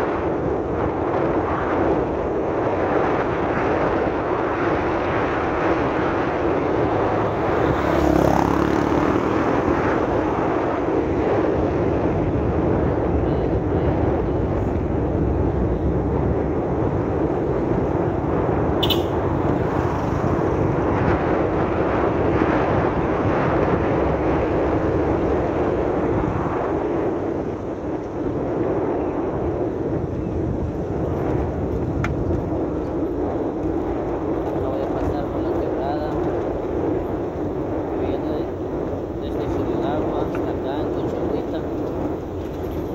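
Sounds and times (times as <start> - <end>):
vehicle engine and tyre noise: 0.0 - 42.9.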